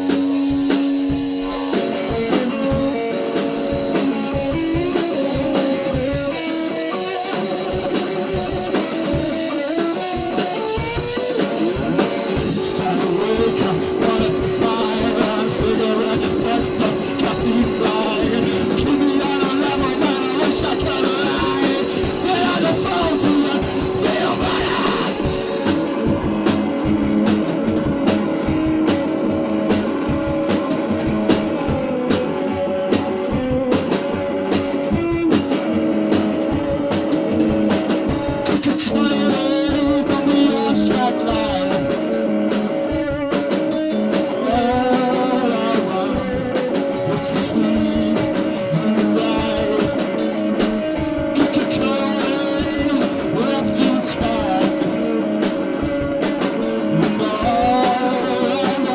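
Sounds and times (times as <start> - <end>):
drum and cymbal strikes: 0.0 - 58.9
out of tune rock-blues band: 0.0 - 58.9.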